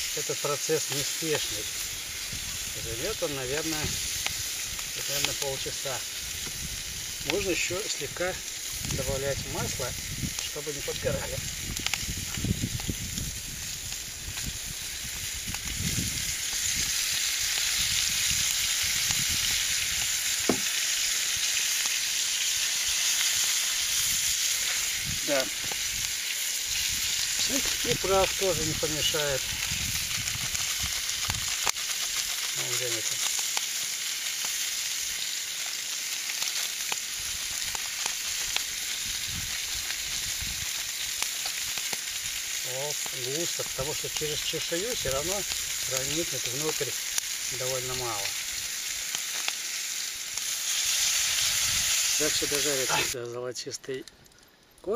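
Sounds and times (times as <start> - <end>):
fish sizzling in a frying pan: 0.0 - 53.2.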